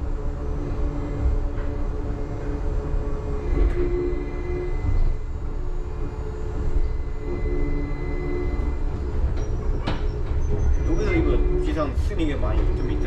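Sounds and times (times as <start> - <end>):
faint high whine: 0.0 - 13.0
train rumble: 0.0 - 13.0
motor humming: 0.1 - 13.0.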